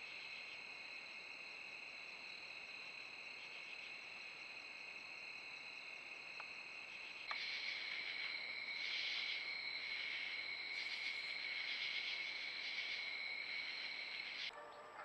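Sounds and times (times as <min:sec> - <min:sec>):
crickets and insects trilling: 0:00.0 - 0:14.5.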